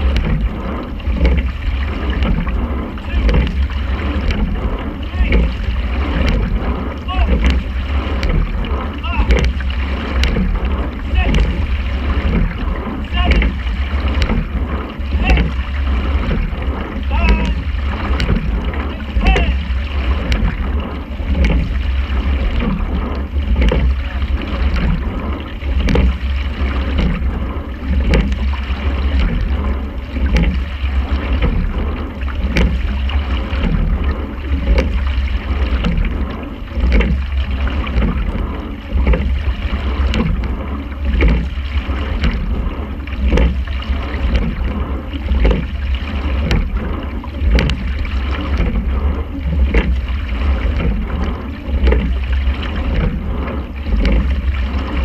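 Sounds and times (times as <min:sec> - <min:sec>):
oars clunking in oarlocks: 0:00.0 - 0:55.0
steady low rumble: 0:00.0 - 0:55.0
water rushing along hull: 0:00.0 - 0:55.0.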